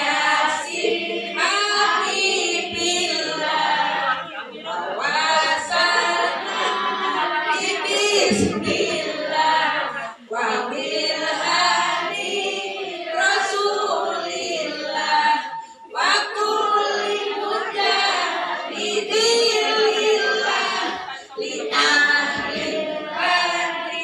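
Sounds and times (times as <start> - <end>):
women singing unaccompanied: 0.0 - 24.0.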